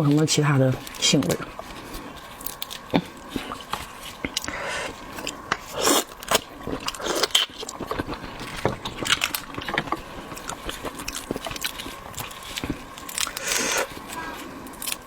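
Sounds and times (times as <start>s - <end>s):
shrimp shell crackling: 0.0s - 15.0s
wet chewing mouth sounds: 0.1s - 15.0s.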